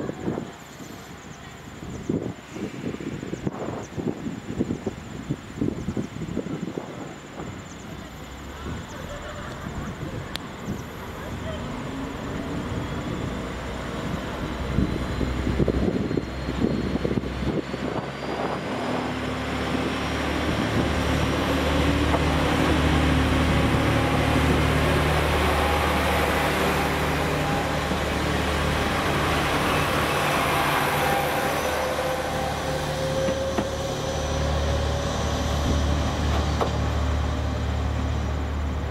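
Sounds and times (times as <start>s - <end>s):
wheel and rail noise: 6.0s - 38.9s
diesel engines droning: 7.4s - 38.9s.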